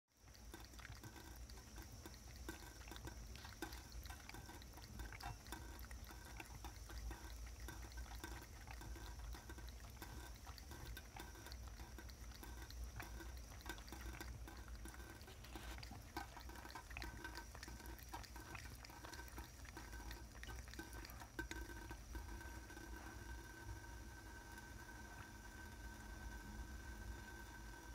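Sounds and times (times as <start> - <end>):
cat lapping water: 0.2 - 27.9
faucet running water: 0.2 - 27.9.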